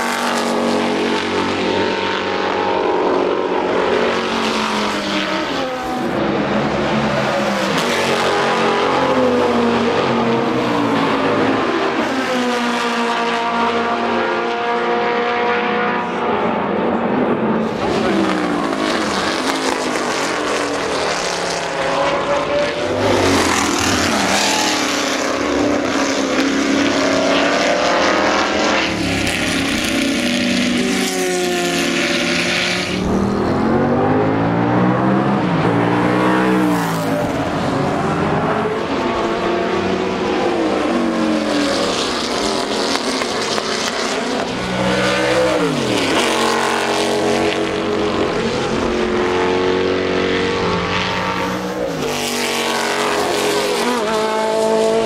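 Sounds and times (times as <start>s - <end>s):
racing engines passing at speed: 0.0s - 55.0s.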